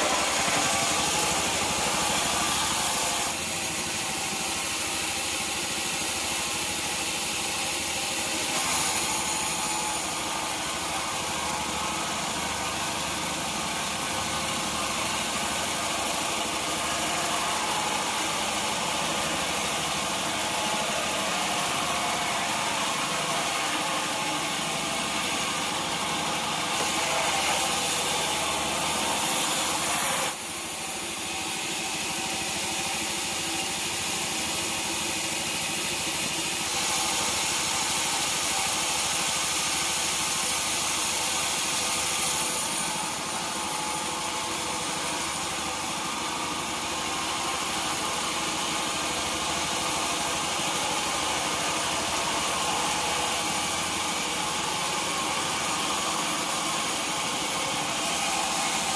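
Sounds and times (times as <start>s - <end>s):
sawmill machinery hum and hiss: 0.0s - 58.9s.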